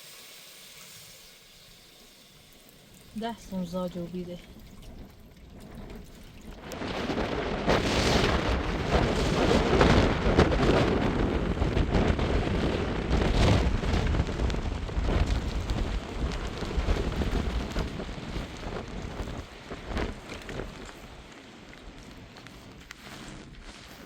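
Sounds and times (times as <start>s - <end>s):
heavy rain pouring: 2.3s - 24.0s
low rumble: 3.2s - 24.0s.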